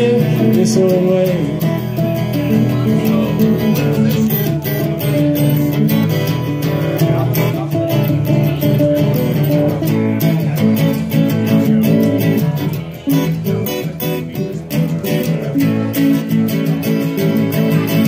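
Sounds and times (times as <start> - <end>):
acoustic guitar strumming: 0.0 - 18.0
banjo picking: 0.1 - 18.0.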